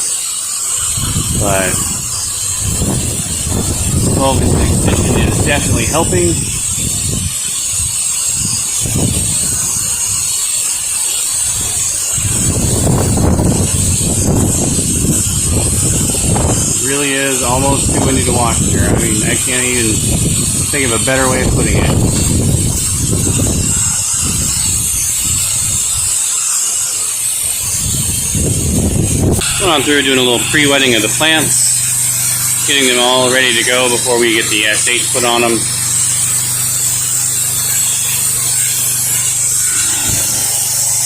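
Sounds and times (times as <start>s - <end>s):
pressure washer water spray: 0.0s - 41.0s
wind buffeting microphone: 0.7s - 10.6s, 11.2s - 26.4s, 27.5s - 41.0s.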